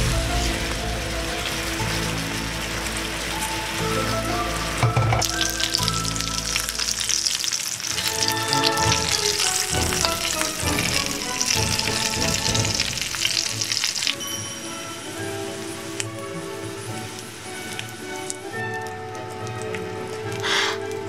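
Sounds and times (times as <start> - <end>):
food sizzling in frying pan: 0.0 - 20.8
light background music: 0.0 - 21.0.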